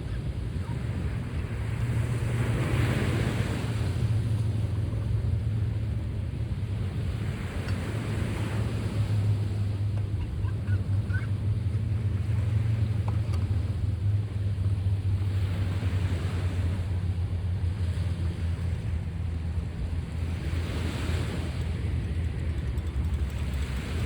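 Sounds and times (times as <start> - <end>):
sea waves washing in: 0.0 - 24.0.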